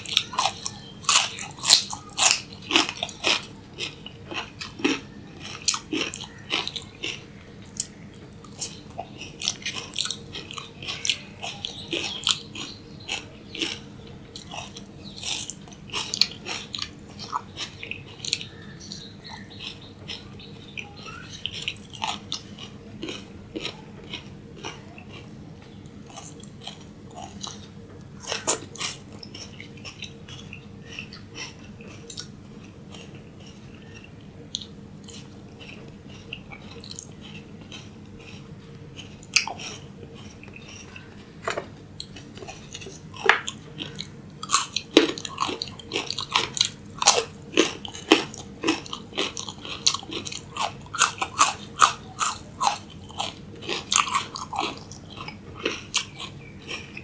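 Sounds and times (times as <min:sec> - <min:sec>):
person crunching raw vegetables: 0:00.0 - 0:57.0.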